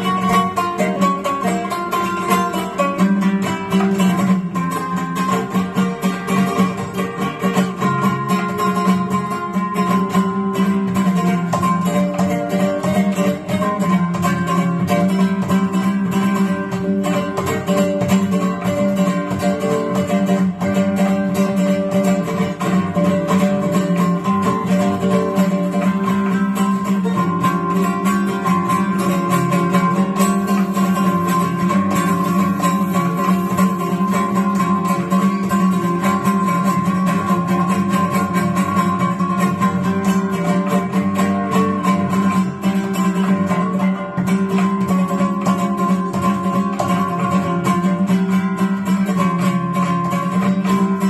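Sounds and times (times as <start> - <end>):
guitar fast plucked notes: 0.0 - 51.0.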